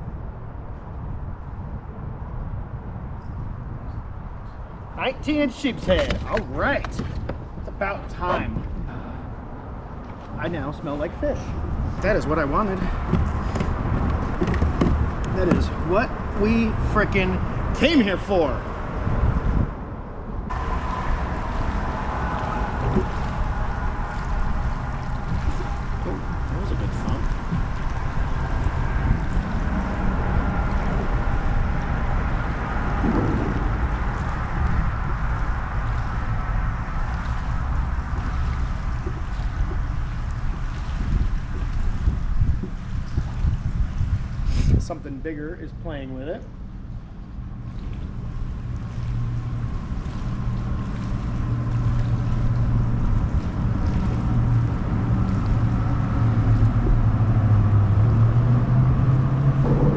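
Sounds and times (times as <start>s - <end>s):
low rumble: 0.0s - 59.9s
motorboat engine drone: 0.0s - 59.9s
wind buffeting microphone: 0.0s - 59.9s.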